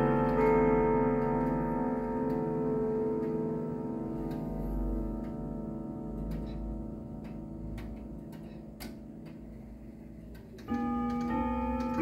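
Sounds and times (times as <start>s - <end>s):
clock pendulum ticking: 0.0s - 12.0s
grandfather clock chime rods ringing: 0.0s - 12.0s.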